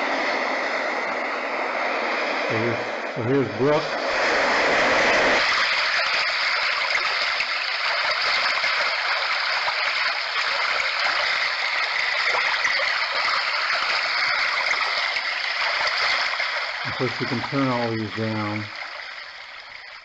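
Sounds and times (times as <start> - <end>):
brook water from small speaker: 2.6 - 20.0.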